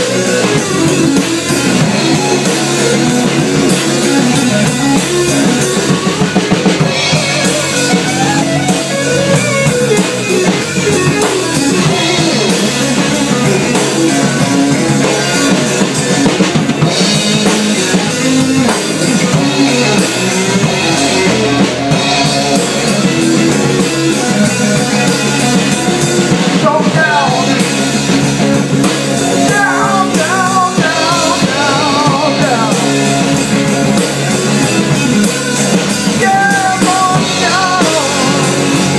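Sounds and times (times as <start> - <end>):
bass guitar: 0.0 - 38.9
drum kit: 0.0 - 38.9
guitar: 0.0 - 38.9.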